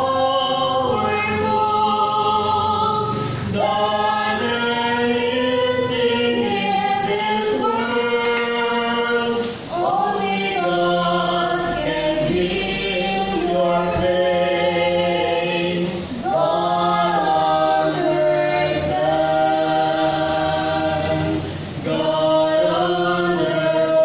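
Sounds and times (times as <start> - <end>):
voices singing a hymn: 0.0 - 24.0.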